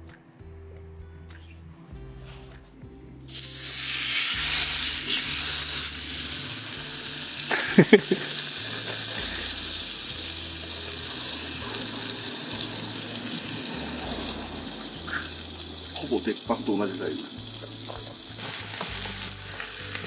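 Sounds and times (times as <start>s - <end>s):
steak sizzling on griddle: 3.3s - 20.0s.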